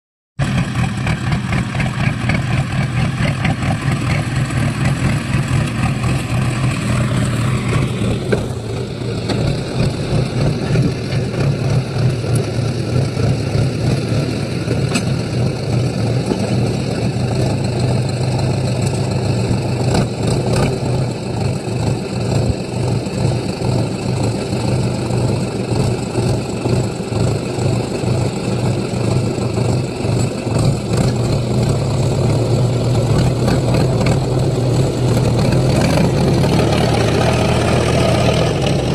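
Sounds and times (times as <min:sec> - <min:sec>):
tractor diesel engine running: 0:00.4 - 0:38.9.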